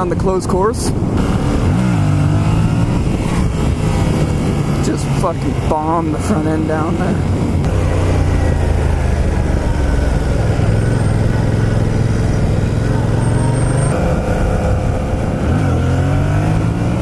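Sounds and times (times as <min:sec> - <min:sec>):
motorcycle engine revving: 0:01.0 - 0:17.0.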